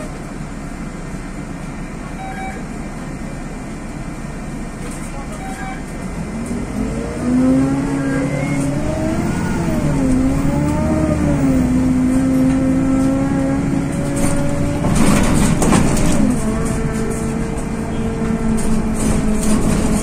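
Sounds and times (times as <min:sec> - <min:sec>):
bus engine whine: 0:00.0 - 0:20.0.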